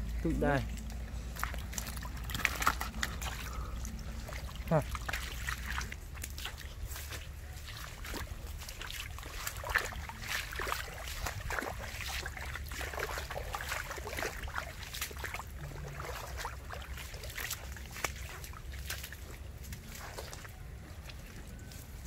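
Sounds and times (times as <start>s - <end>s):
footsteps splashing through mud: 0.0s - 22.0s
steady low rumble: 0.0s - 22.0s.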